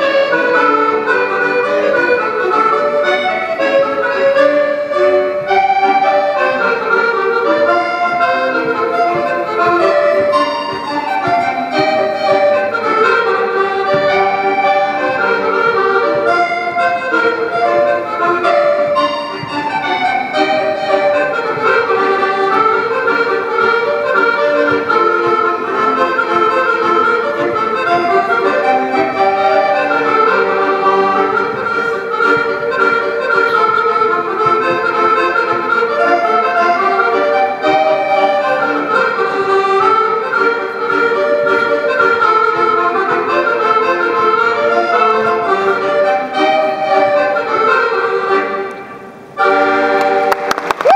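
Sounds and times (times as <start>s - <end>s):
accordion dance band music: 0.0s - 50.9s.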